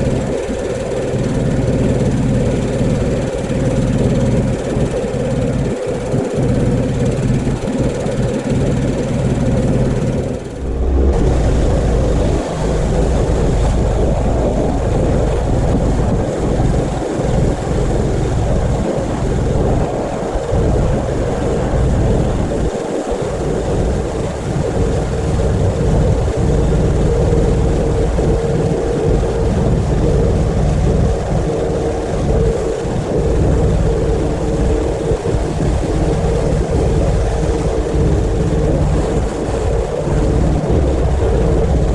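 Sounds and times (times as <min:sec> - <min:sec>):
pressure washer humming: 0:00.0 - 0:41.9.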